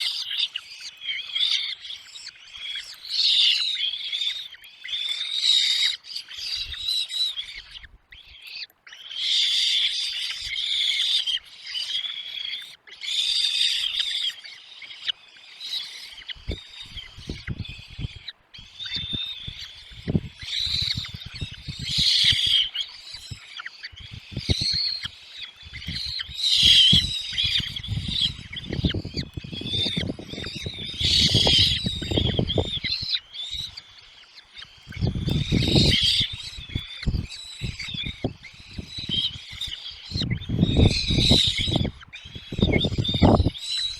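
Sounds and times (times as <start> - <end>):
nestling birds cheeping: 0.0 - 43.9.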